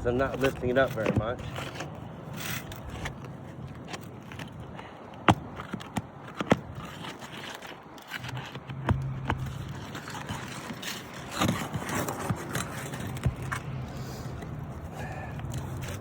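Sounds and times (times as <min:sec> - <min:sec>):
shingle scraping and crackling: 0:00.0 - 0:16.0.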